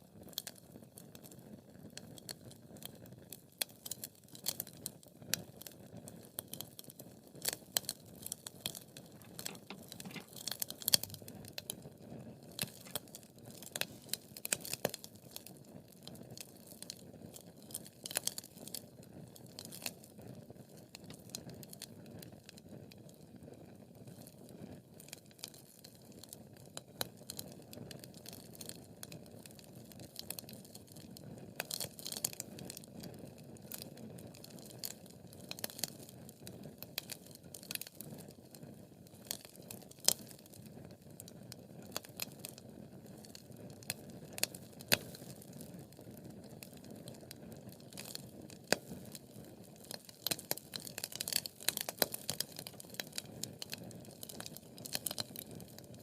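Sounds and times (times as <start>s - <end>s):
wood fire crackling: 0.3s - 23.2s, 25.0s - 56.0s.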